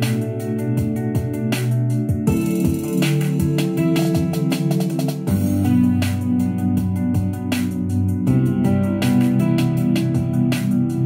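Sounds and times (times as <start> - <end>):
keyboard chords: 0.0 - 11.0
steady electronic beat: 0.0 - 11.0.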